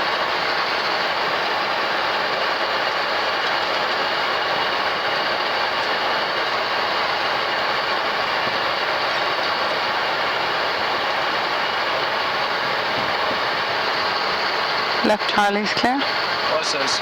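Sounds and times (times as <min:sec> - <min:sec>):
aircraft flight deck hiss and rumble: 0:00.0 - 0:17.0.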